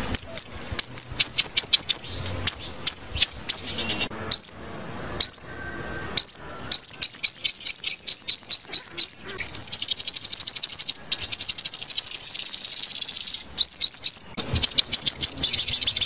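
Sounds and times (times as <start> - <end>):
bird giving high upward chirps: 0.0 - 16.0.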